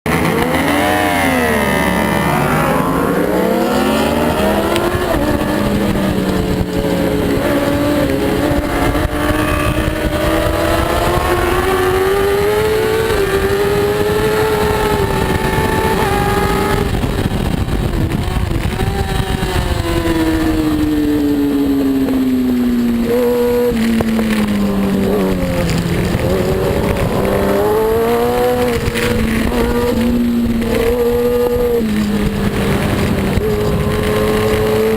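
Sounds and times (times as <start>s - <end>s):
motorcycle engine revving: 0.0s - 34.9s
wind noise: 0.1s - 34.9s.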